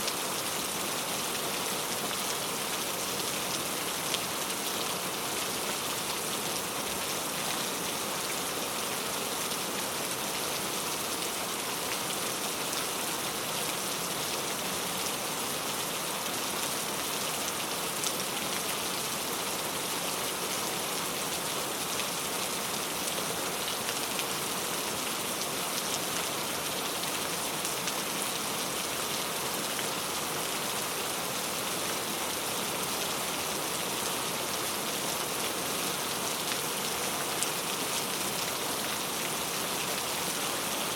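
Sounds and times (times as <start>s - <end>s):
very heavy rain: 0.0s - 40.9s.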